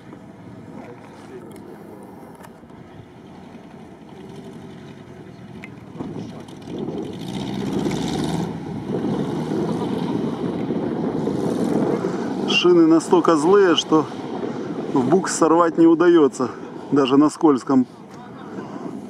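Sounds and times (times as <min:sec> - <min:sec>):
off-road vehicle engine running: 0:00.0 - 0:15.3.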